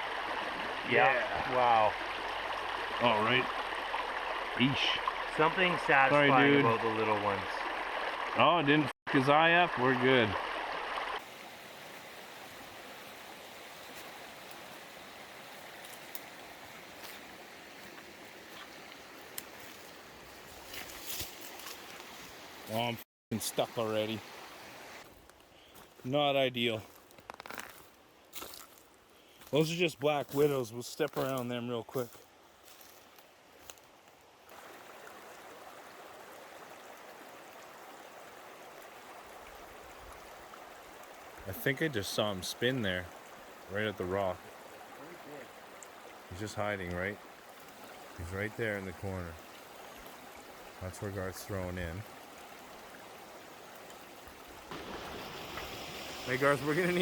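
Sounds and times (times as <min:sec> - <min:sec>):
creek water flowing: 0:00.0 - 0:57.0.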